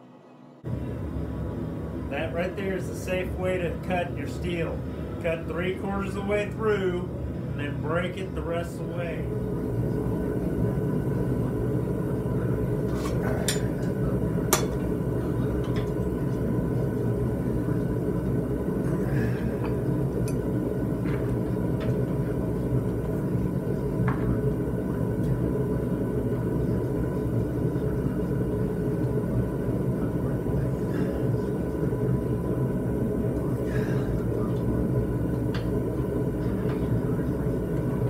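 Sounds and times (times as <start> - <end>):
gas forge rumbling: 0.0 - 38.0.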